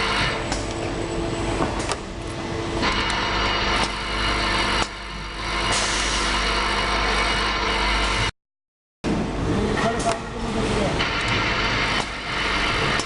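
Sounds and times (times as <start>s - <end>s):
assembly machine humming: 0.0s - 8.3s, 9.1s - 13.0s.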